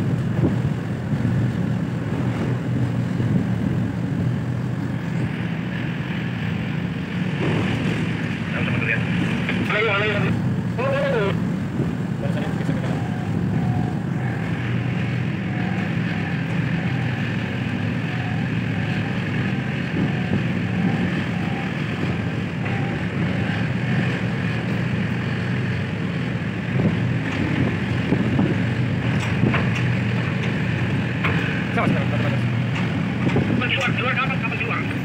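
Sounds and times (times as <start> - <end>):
wind on microphone: 0.0 - 33.9
low machinery drone: 0.0 - 35.0.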